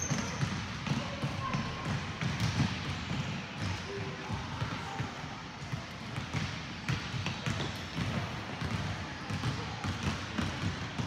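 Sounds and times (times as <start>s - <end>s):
basketballs bouncing on wooden floor: 0.0s - 11.0s.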